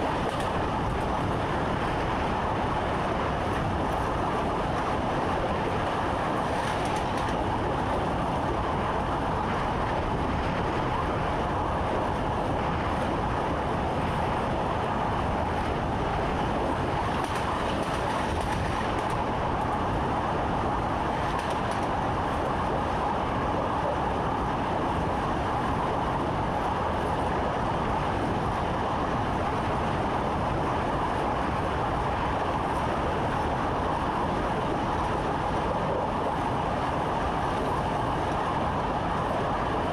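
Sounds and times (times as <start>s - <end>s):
train running noise: 0.0s - 39.9s.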